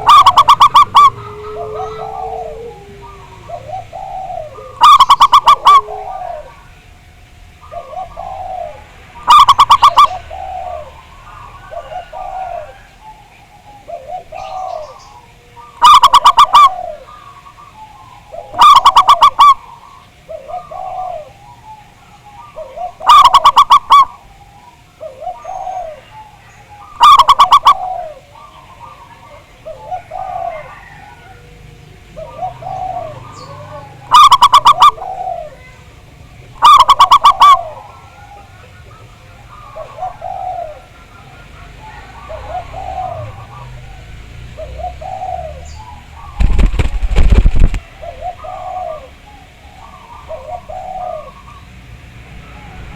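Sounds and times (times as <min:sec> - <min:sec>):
loud rapid dove coo: 0:00.0 - 0:51.8
soft overlapping dove coos: 0:00.0 - 0:52.9.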